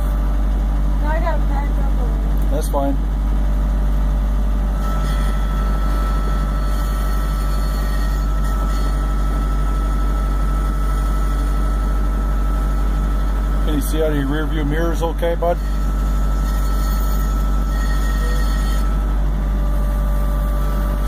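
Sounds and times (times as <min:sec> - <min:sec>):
tractor engine drone from cab: 0:00.0 - 0:21.0.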